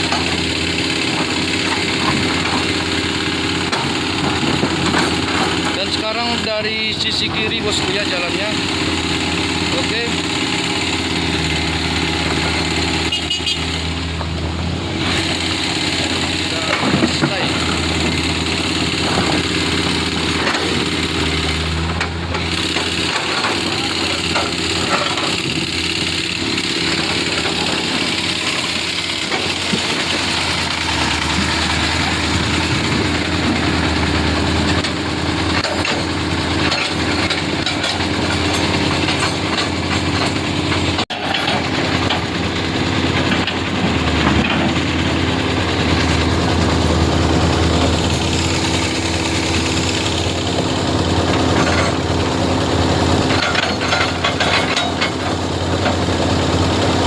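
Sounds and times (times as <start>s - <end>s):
engines running: 0.0s - 57.0s.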